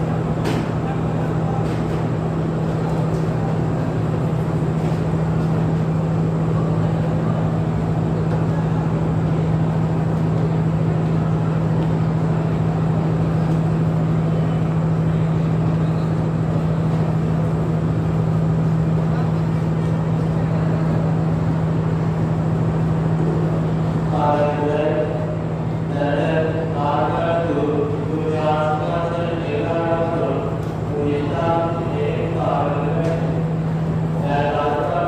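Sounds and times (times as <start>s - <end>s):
train diesel engine droning: 0.0s - 35.0s.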